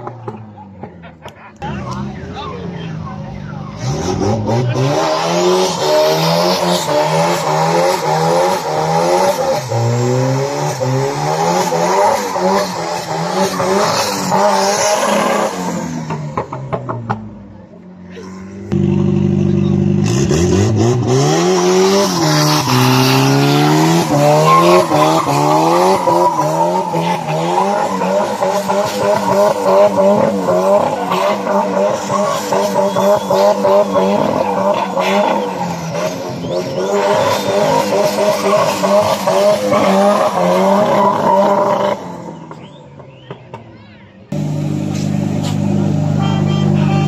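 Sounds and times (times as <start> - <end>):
car engine revving: 0.0 - 17.8, 18.4 - 43.2, 44.3 - 47.0.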